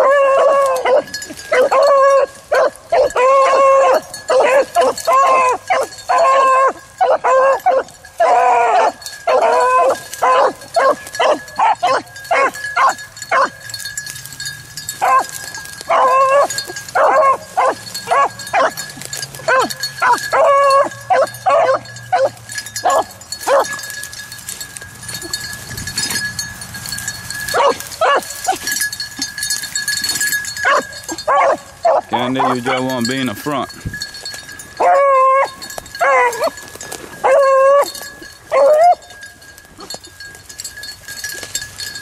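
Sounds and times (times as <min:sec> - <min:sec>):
hounds barking and baying: 0:00.0 - 0:42.0.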